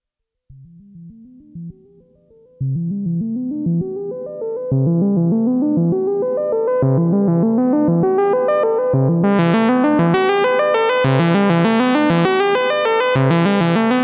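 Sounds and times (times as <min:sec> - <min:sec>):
synthesizer rising arpeggio: 0:00.7 - 0:14.0.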